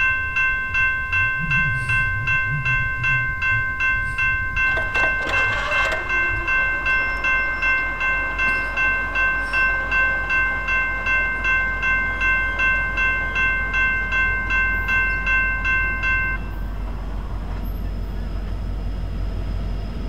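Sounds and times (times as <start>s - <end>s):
crossing signal bell ringing: 0.0s - 16.9s.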